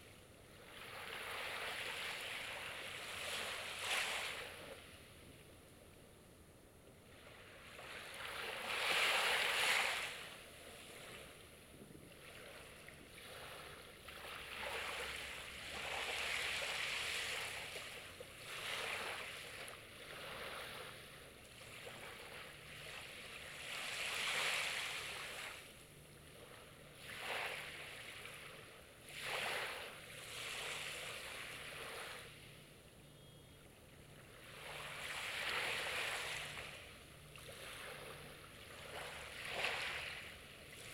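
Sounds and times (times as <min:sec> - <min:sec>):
sea waves breaking on shore: 0:00.0 - 0:05.2, 0:07.0 - 0:32.6, 0:34.2 - 0:40.9.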